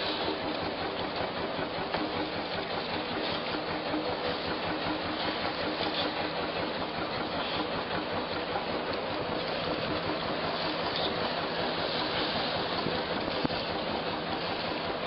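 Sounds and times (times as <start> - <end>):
boat engine running: 0.0 - 15.0
sea: 0.0 - 15.0
wind: 0.0 - 15.0.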